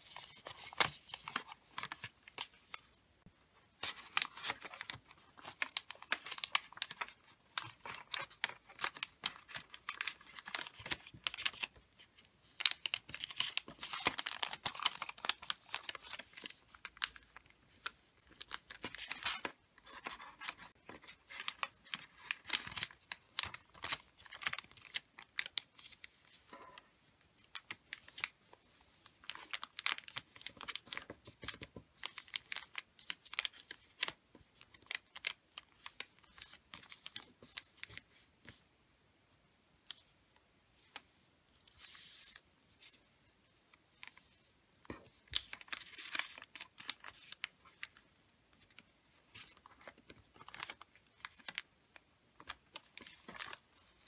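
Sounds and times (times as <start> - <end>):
paper rustling and crinkling: 0.0 - 3.0, 3.8 - 38.6, 44.0 - 48.0, 48.6 - 51.7, 52.4 - 54.0.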